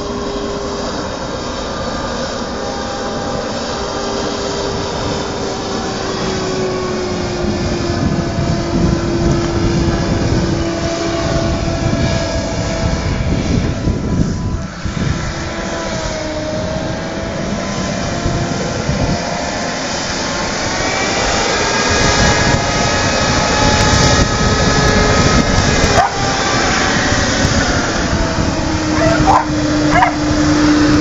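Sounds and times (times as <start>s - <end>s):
hovercraft engine and fan: 0.0s - 31.0s.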